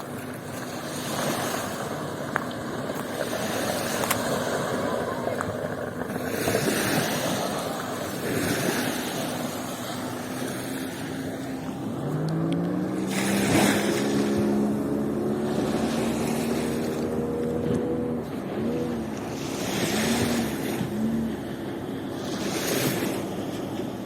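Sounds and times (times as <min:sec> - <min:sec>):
low engine drone: 0:00.0 - 0:24.0
sea waves washing on beach: 0:00.0 - 0:24.0.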